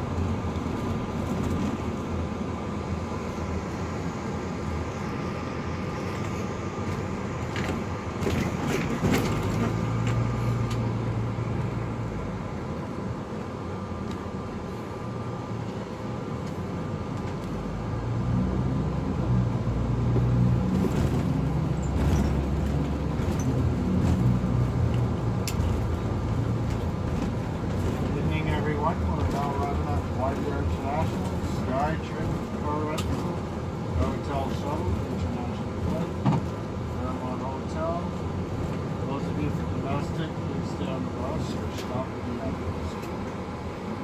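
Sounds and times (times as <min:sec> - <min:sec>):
engine and road noise: 0:00.0 - 0:44.0.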